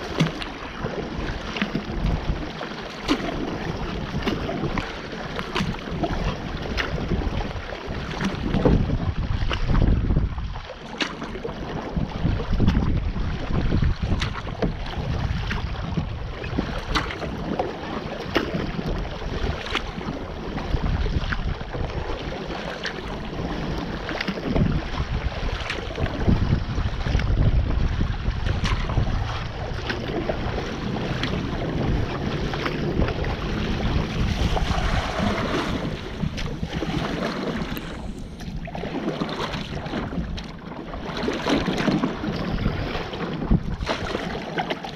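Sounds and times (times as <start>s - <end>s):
water splashing around kayak: 0.0s - 44.9s
wind on microphone: 0.0s - 44.9s.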